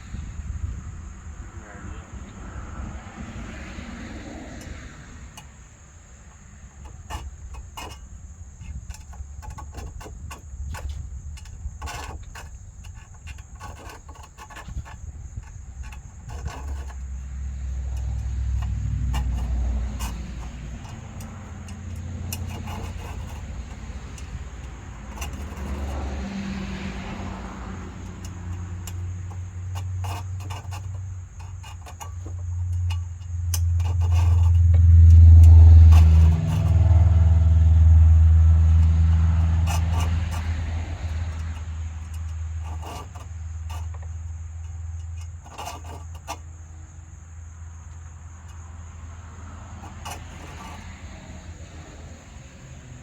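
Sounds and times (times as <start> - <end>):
engine running at low speed: 0.0 - 53.0
knocks clicks and scrapes: 2.3 - 53.0.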